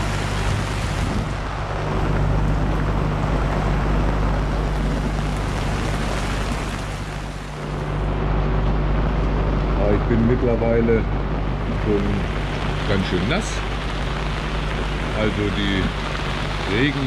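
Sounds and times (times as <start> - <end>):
heavy rain on canvas and deck: 0.0 - 17.0
sea noise: 0.0 - 17.0
steady low drone: 0.0 - 17.0
wind: 0.0 - 17.0.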